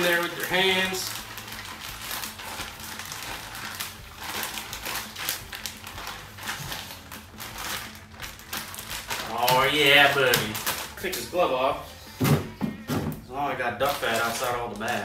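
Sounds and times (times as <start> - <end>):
plastic bag crinkling and rustling: 0.0 - 11.7, 12.8 - 15.0.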